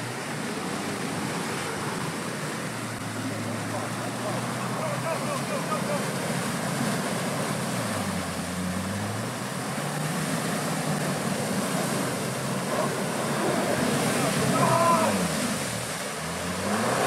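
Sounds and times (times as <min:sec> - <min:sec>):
wheels splashing through mud: 0:00.0 - 0:17.0
car engine revving: 0:01.8 - 0:17.0.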